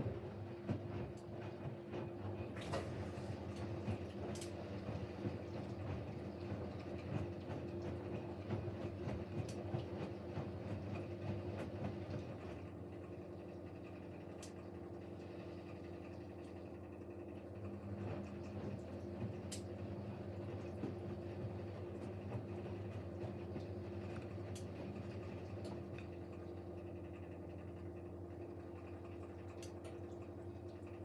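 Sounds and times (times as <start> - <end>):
washing machine hum: 0.0 - 31.0
wet laundry sloshing in drum: 0.0 - 31.0.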